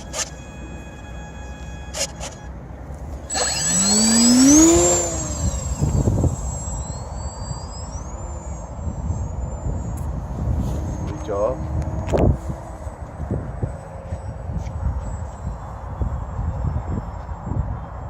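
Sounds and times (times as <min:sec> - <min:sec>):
model jet engine whine: 0:00.0 - 0:18.0.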